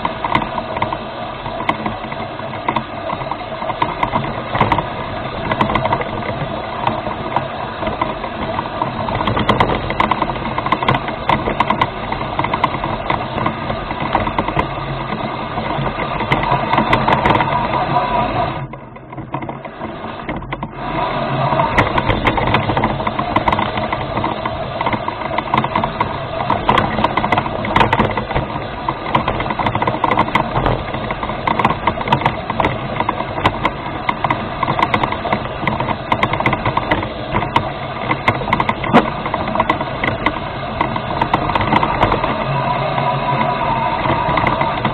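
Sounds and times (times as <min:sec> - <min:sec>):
electric motors and gears running: 0:00.0 - 0:44.9.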